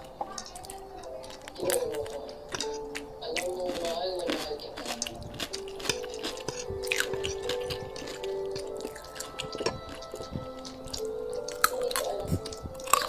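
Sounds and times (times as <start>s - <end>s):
soft background music: 0.0s - 13.0s
wet chewing and crunching: 0.0s - 13.0s.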